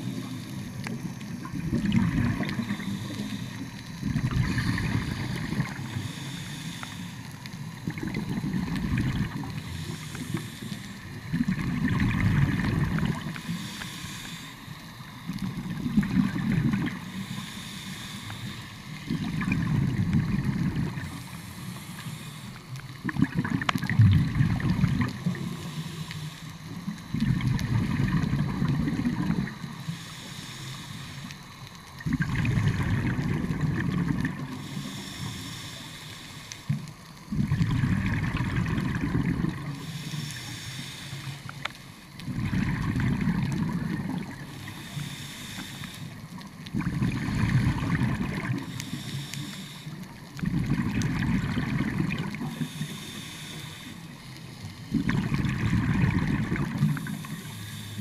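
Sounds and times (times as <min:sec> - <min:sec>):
regulator inhale hiss: 0:00.0 - 0:19.5, 0:20.2 - 0:23.1, 0:24.2 - 0:58.0
exhaled air bubbling: 0:00.0 - 0:58.0.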